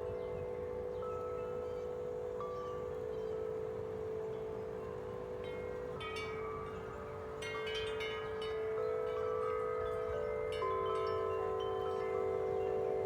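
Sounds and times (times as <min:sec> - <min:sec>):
large wind chimes ringing: 0:00.0 - 0:13.0.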